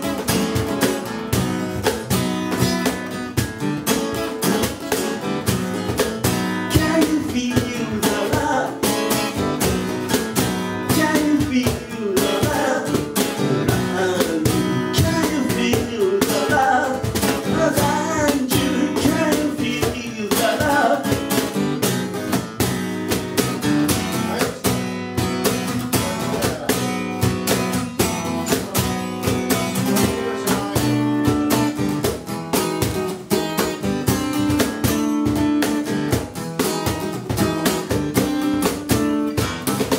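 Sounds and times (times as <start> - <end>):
acoustic guitar strumming: 0.0 - 39.9
cajon beaten by hand: 0.0 - 39.9.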